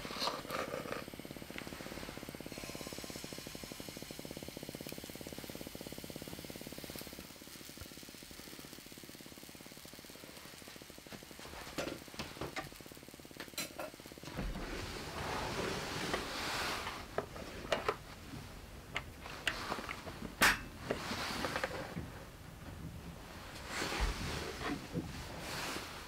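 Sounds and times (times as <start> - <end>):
electric hand mixer running: 0.0 - 22.3.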